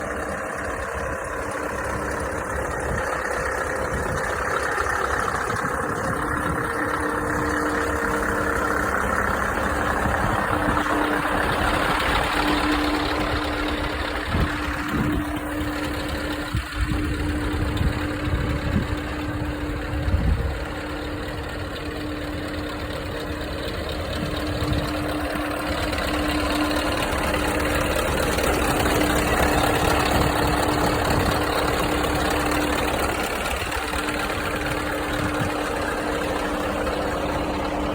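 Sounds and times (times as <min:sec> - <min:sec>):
diesel truck engine idling: 0:00.0 - 0:37.9.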